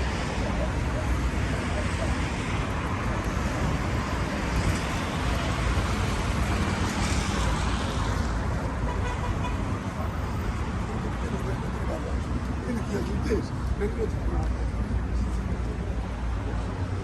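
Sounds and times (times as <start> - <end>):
cars passing with hiss: 0.0 - 17.0
road traffic rumble: 0.0 - 17.0.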